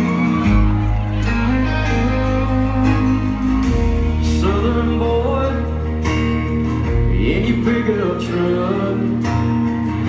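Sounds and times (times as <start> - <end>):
live country band: 0.0 - 10.0
strummed acoustic guitar: 0.0 - 10.0.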